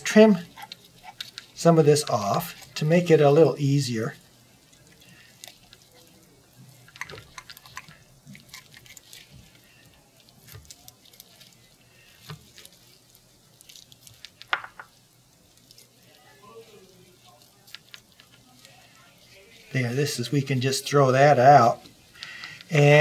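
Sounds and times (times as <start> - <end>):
wet tissue squishing: 0.0 - 23.0.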